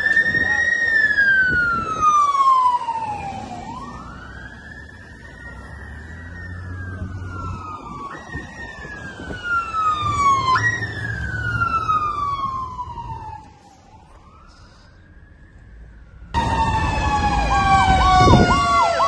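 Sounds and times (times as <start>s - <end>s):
fire truck siren: 0.0s - 19.0s
truck engine rumble: 0.0s - 19.0s.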